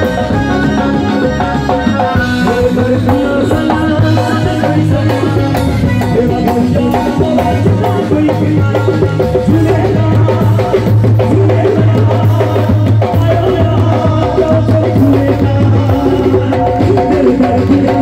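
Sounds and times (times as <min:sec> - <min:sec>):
driving drum beat: 0:00.0 - 0:18.0
electric guitars: 0:00.0 - 0:18.0
man singing: 0:00.0 - 0:18.0
steady bass: 0:00.0 - 0:18.0.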